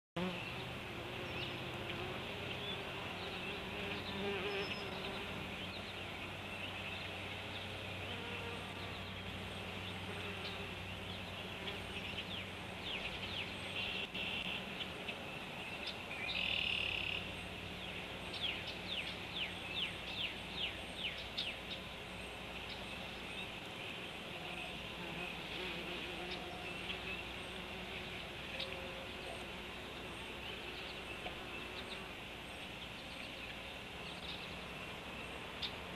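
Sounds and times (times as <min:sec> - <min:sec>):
insects buzzing: 0:00.2 - 0:35.9.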